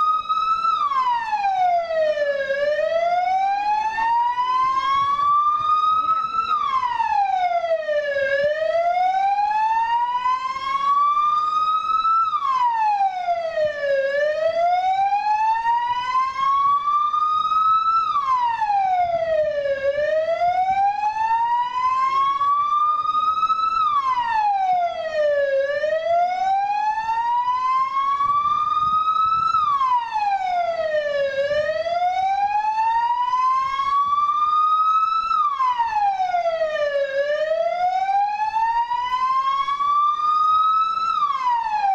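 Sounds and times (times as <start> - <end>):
siren slow wail: 0.0 - 41.9.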